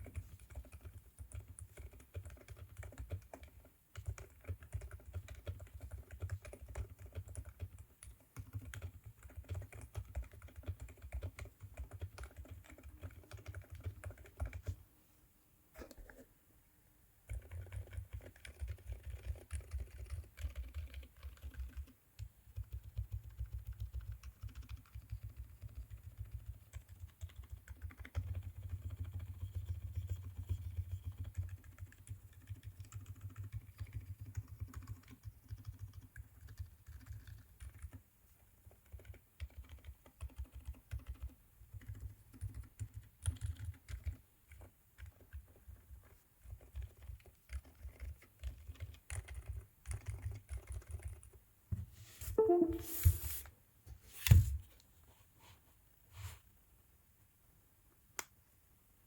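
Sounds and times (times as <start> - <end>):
muffled keyboard typing: 0.0 - 14.8, 17.2 - 51.4, 52.4 - 53.4.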